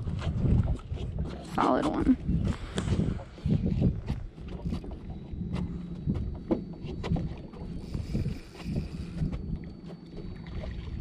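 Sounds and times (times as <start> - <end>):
water lapping against boat hull: 0.0 - 11.0
wind on microphone: 0.0 - 11.0.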